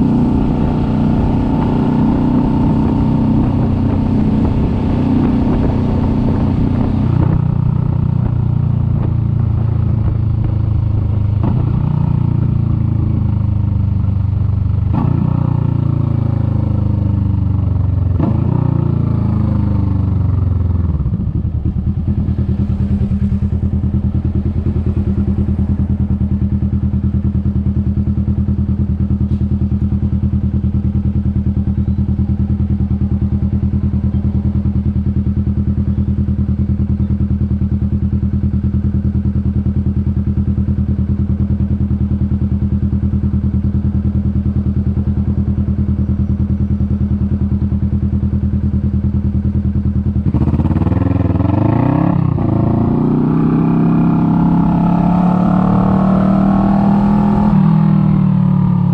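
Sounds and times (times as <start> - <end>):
motorcycle engine downshifting: 0.0 - 39.2, 39.8 - 58.9.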